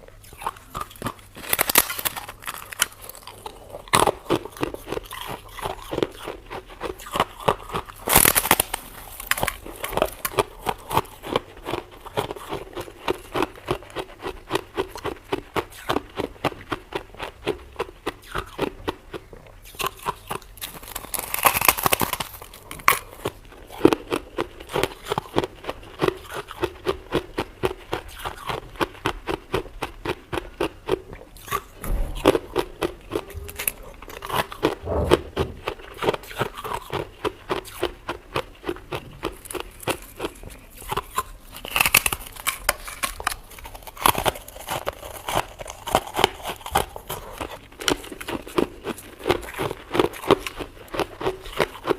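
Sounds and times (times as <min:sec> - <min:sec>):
frost crunching when chewed: 0:00.0 - 0:51.9.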